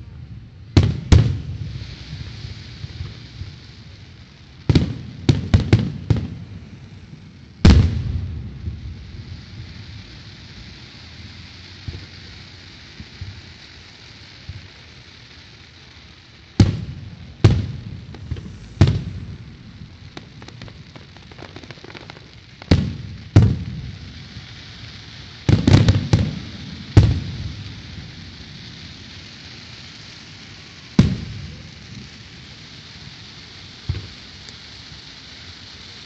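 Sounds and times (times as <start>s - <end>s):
fireworks booming with echo: 0.0s - 36.0s
steady hiss: 0.0s - 36.0s.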